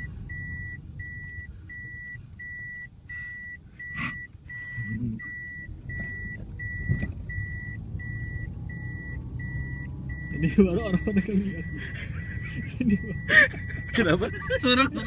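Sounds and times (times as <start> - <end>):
reversing beeper: 0.0 - 14.2
car rumbling in reverse: 0.0 - 15.0.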